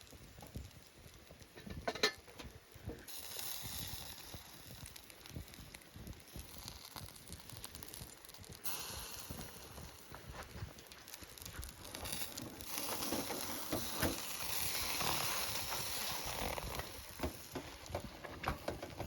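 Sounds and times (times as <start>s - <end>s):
campfire crackling: 0.0s - 19.0s
steak sizzling on a grill: 0.0s - 19.0s.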